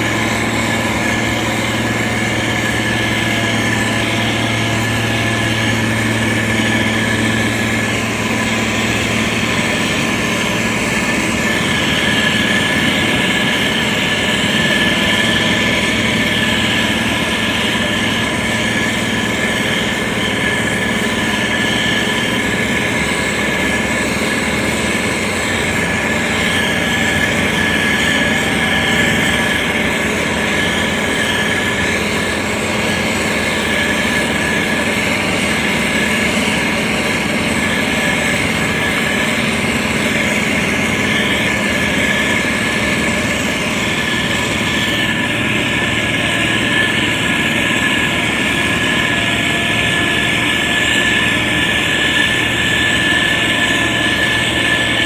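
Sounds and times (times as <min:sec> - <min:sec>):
constant high whine: 0:00.0 - 0:55.0
diesel engine running: 0:00.0 - 0:55.0.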